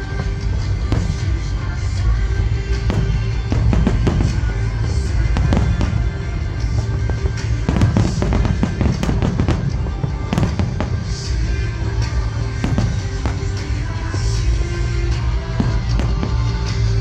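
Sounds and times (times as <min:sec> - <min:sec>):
fireworks bursting and crackling: 0:00.0 - 0:17.0
loud music: 0:00.0 - 0:17.0.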